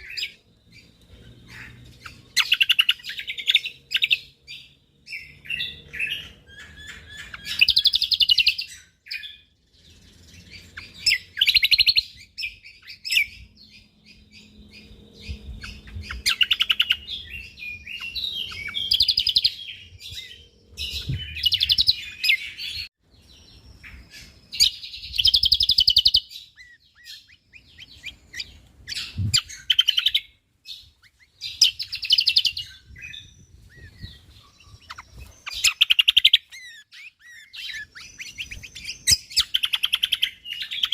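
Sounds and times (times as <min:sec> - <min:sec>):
songbird chattering trills: 0:00.0 - 0:40.9.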